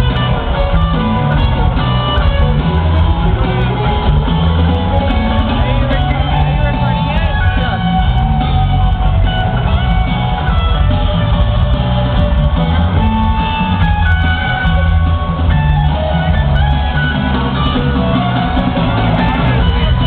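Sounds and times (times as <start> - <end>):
bass and drums: 0.0 - 20.0
electric guitar: 0.0 - 20.0.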